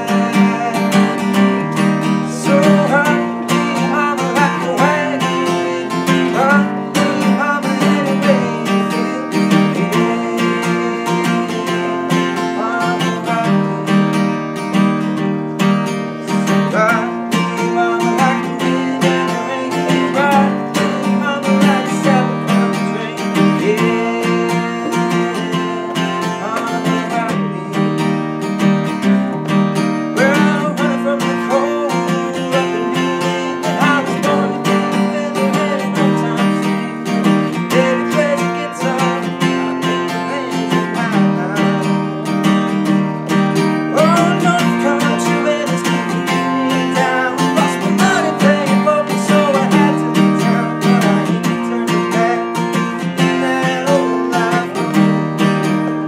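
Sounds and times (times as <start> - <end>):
young man singing: 0.0 - 14.4, 15.5 - 56.0
acoustic guitar strumming: 0.0 - 56.0.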